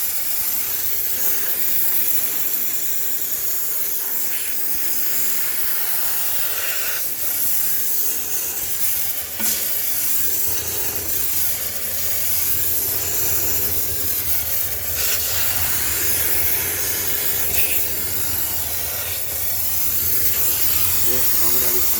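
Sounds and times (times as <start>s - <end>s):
steam cleaner hissing: 0.0s - 21.9s.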